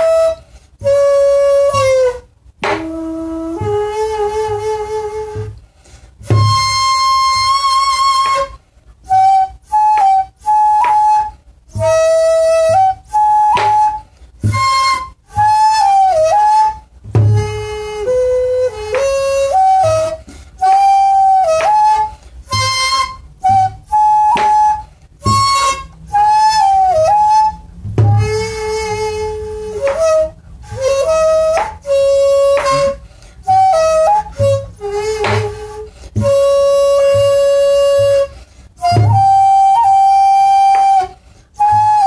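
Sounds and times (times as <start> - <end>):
bamboo flute solo: 0.0 - 42.0.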